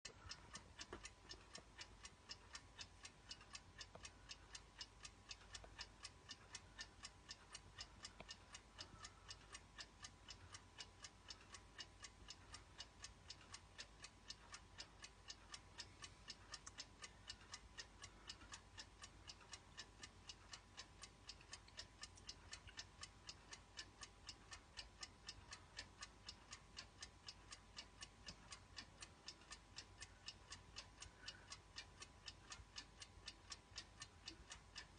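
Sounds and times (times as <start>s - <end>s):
alarm clock ticking: 0.0s - 34.9s.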